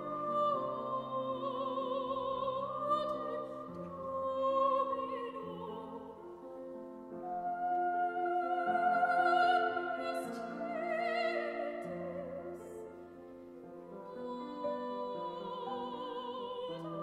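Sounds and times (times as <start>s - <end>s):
woman singing operatic solo: 0.0s - 13.2s, 13.9s - 17.0s.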